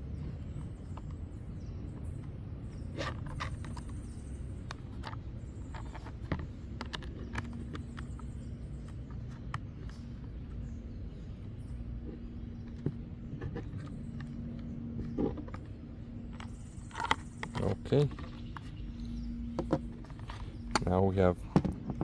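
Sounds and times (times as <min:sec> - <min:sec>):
steady low hum: 0:00.0 - 0:22.0
clicks and taps of screw and nut: 0:01.9 - 0:10.7, 0:12.0 - 0:22.0.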